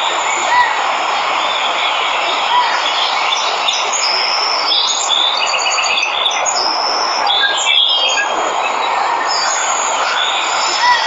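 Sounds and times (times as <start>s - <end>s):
waterfall rushing: 0.0s - 5.4s, 6.1s - 11.0s
birds chirping and trilling: 0.0s - 11.0s.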